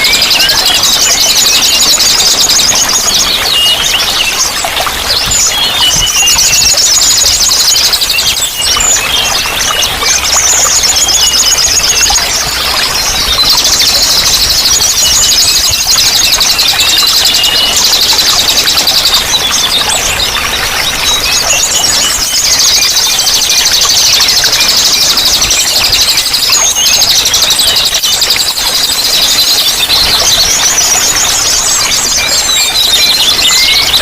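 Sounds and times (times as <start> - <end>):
running water: 0.0 - 34.0
songbirds trilling and chirping: 0.0 - 34.0.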